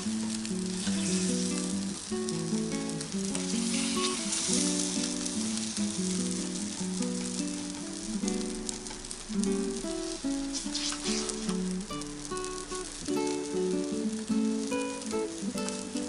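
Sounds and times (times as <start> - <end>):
batter sizzling on hot plate: 0.0 - 16.0.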